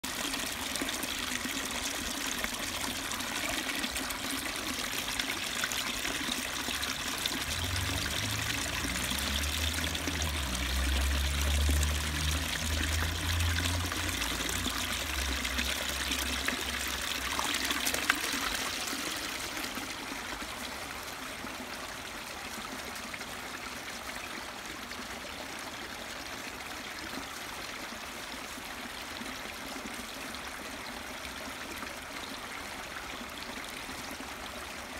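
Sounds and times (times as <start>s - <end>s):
stream trickling over rocks: 0.0s - 34.9s.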